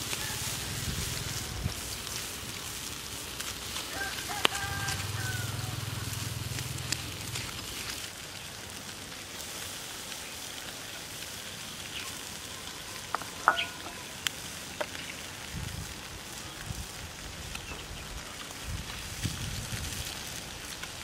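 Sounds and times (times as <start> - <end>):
meat sizzling over charcoal: 0.0 - 21.0.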